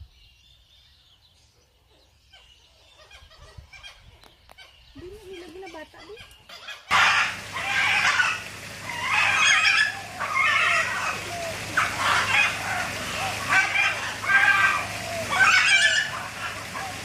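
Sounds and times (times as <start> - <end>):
birds calling loudly: 0.0 - 17.0.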